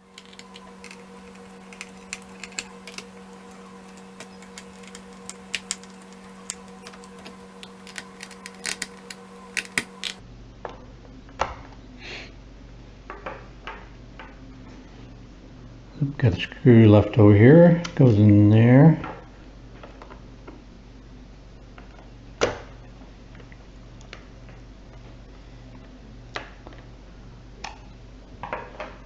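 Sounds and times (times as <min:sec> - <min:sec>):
steady electrical hum: 0:00.0 - 0:29.0.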